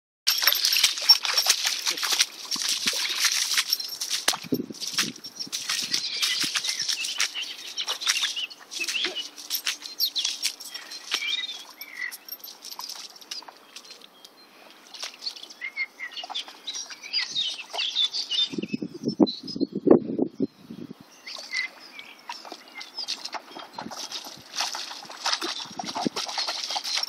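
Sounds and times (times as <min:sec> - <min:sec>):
birds chirping and trilling: 0:02.2 - 0:27.0.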